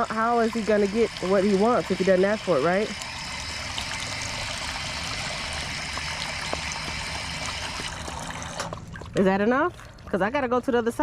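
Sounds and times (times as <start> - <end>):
water running from drinking fountain: 0.0 - 10.8.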